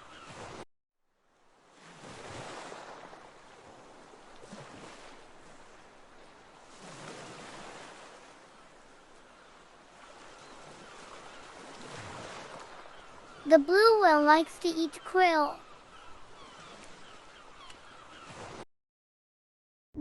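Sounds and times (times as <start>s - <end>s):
ocean waves washing: 1.4s - 18.6s.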